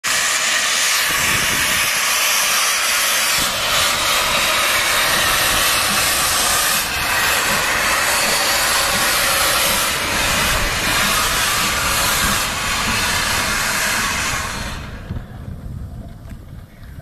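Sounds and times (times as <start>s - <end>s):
steam hissing from locomotive: 0.0s - 15.6s.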